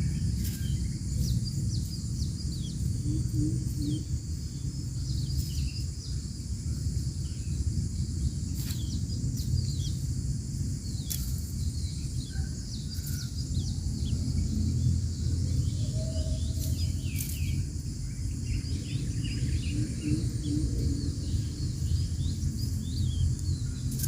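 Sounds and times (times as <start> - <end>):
constant low rumble: 0.0 - 24.0
high insect drone: 0.0 - 24.0
small birds chirping: 0.0 - 24.0.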